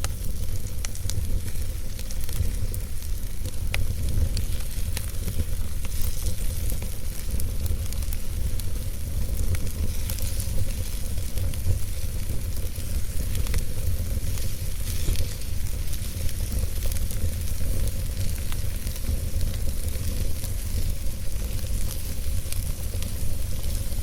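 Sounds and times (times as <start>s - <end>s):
campfire crackling and hissing: 0.0s - 24.0s.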